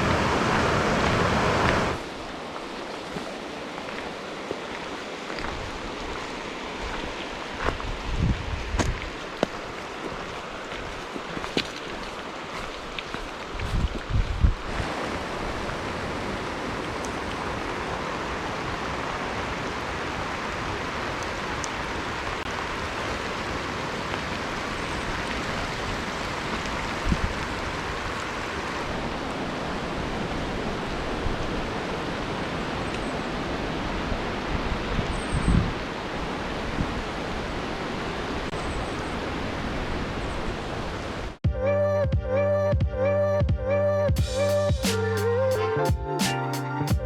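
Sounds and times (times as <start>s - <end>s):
water rushing: 0.0s - 41.4s.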